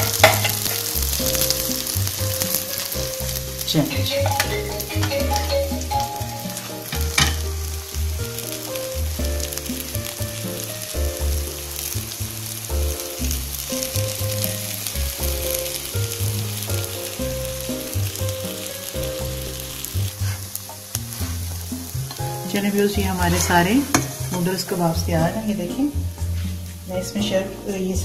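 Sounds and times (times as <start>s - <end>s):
background music with bass: 0.0s - 28.0s
patties sizzling in hot oil: 0.0s - 28.0s.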